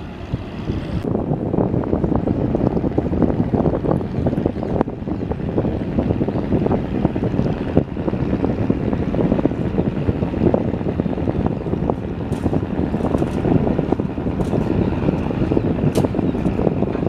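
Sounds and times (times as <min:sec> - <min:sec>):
boat diesel engine rumbling: 0:00.0 - 0:17.0
wind buffeting microphone: 0:00.0 - 0:17.0.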